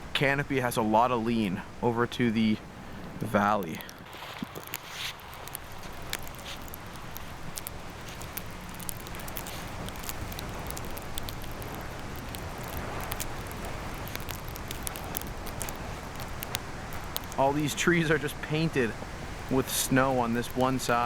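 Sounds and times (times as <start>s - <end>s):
wind rumbling on microphone: 0.0s - 21.0s
small crackles and clicks: 2.3s - 21.0s.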